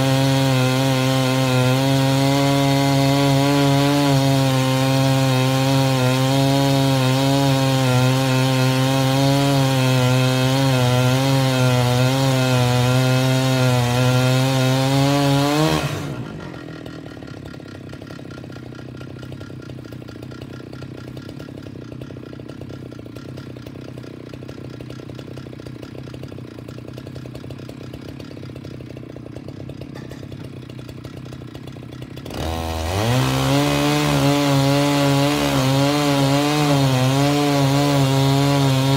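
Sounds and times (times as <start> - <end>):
chainsaw cutting wood: 0.0 - 38.9
chainsaw idling: 0.0 - 38.9.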